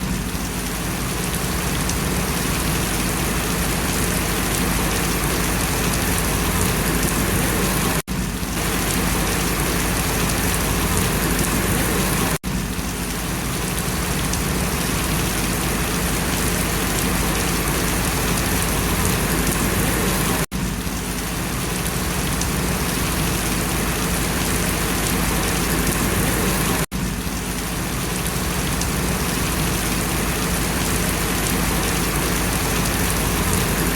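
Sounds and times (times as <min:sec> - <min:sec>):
rain falling on leaves: 0:00.0 - 0:33.9.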